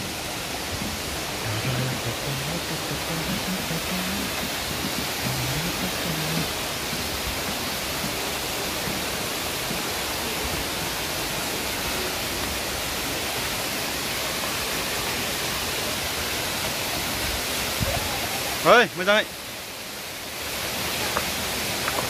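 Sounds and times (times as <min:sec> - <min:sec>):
waterfall rushing onto boulders: 0:00.0 - 0:22.0.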